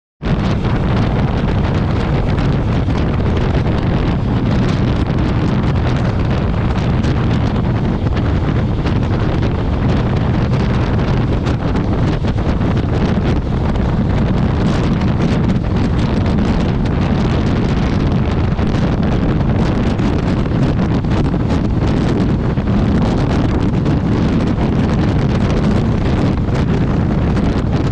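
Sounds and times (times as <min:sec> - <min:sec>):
vehicle noise: 0:00.2 - 0:27.9
wind buffeting microphone: 0:00.2 - 0:27.9.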